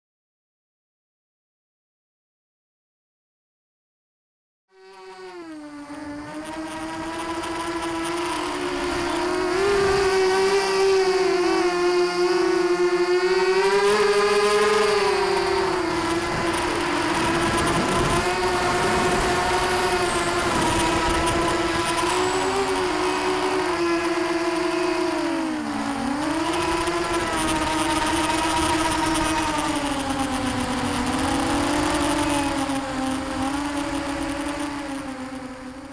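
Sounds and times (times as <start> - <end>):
quadcopter motors whining: 4.7 - 35.9.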